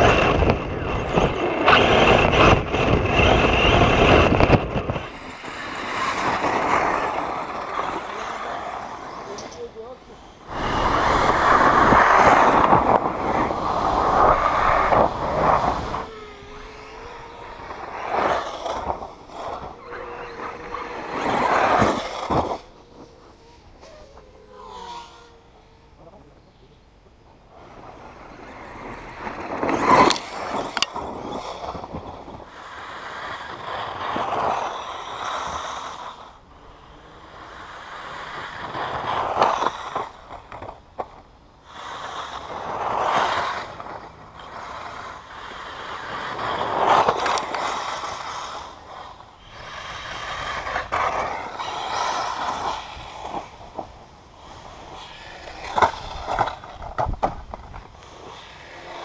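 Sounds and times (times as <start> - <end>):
rc car motor and tyres on dirt: 0.0 - 59.0.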